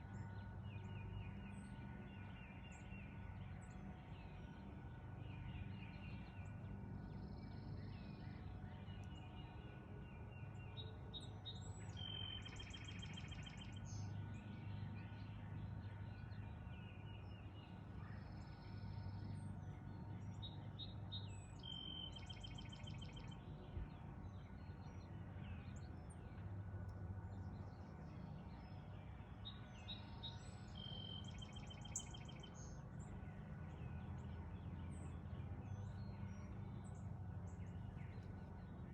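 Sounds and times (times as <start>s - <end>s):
bird song with rattling trill: 0.0s - 38.9s
low background hum: 0.0s - 38.9s
songbirds singing and chirping: 0.0s - 38.9s.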